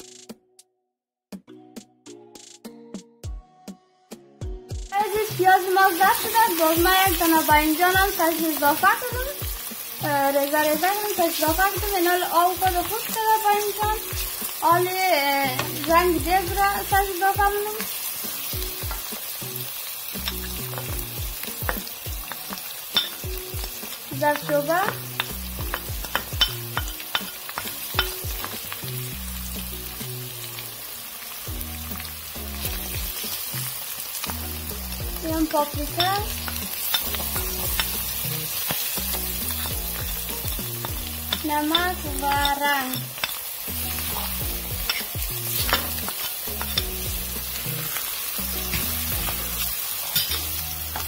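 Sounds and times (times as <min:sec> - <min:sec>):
vegetables sizzling in hot oil: 0:04.9 - 0:51.0.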